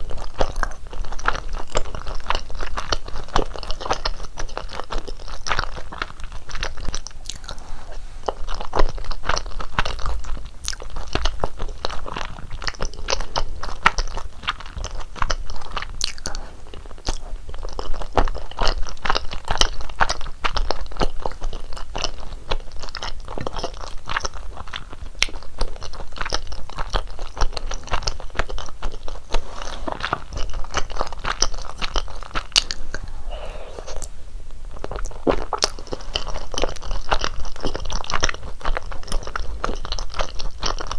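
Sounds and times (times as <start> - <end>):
chewing with wet mouth clicks: 0.0 - 7.6, 8.2 - 29.4, 34.9 - 40.9.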